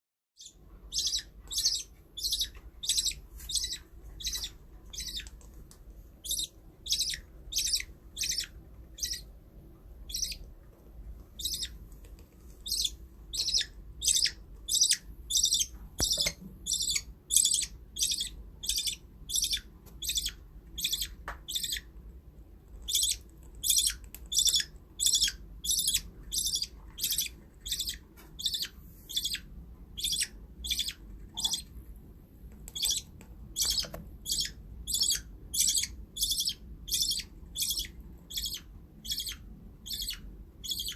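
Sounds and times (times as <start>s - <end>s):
budgie chick chirping: 0.4s - 5.5s, 6.2s - 9.4s, 10.0s - 10.6s, 11.3s - 11.8s, 12.6s - 22.0s, 22.8s - 31.8s, 32.5s - 40.9s.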